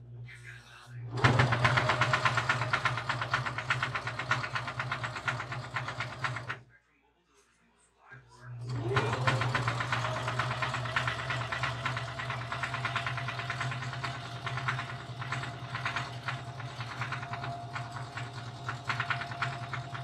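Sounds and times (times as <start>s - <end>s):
sewing machine running: 1.1s - 6.6s, 8.6s - 20.0s.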